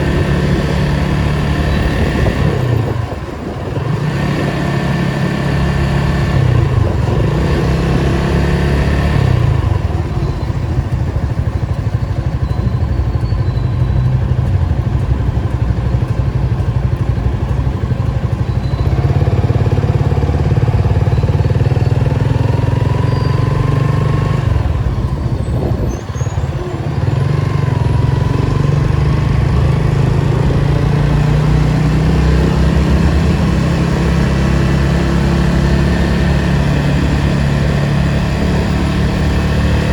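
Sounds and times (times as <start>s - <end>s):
car engine revving: 0.0s - 10.2s, 14.0s - 25.8s, 26.4s - 39.9s.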